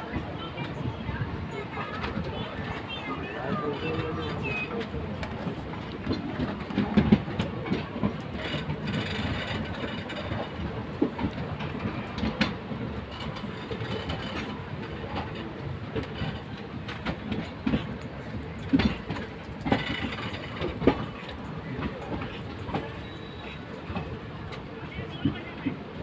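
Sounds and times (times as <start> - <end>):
sharp train clanks: 0.0 - 26.0
train coaches rumbling: 0.0 - 26.0
wheels clattering over rail joints: 1.8 - 25.5.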